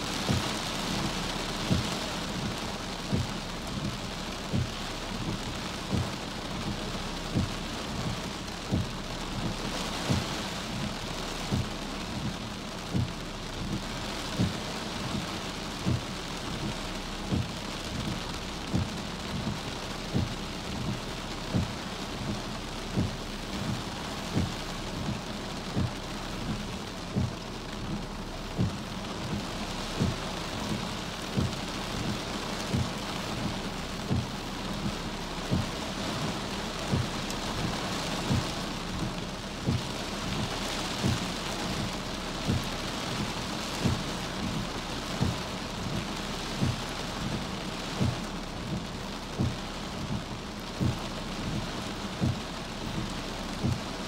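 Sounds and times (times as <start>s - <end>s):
heavy rain pelting a car: 0.0s - 54.0s.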